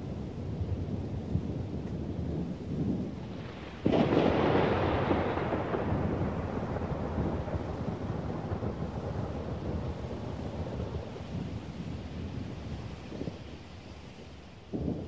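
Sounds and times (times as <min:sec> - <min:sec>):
thunder clap and rumble: 0:00.0 - 0:13.6
steady rain: 0:00.0 - 0:15.0.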